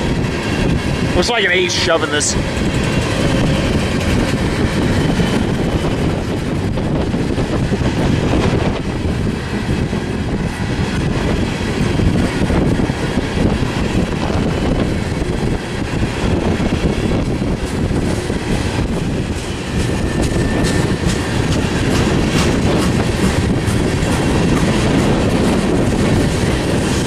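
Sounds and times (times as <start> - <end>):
freight train wheels rumbling: 0.0 - 27.0
wind buffeting microphone: 0.0 - 27.0.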